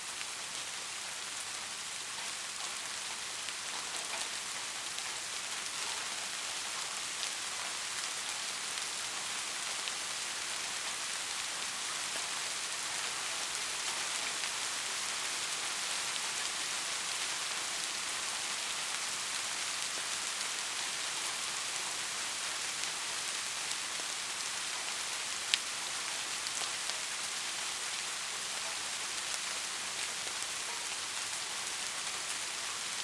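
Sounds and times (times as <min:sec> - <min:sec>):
heavy rain: 0:00.0 - 0:33.0.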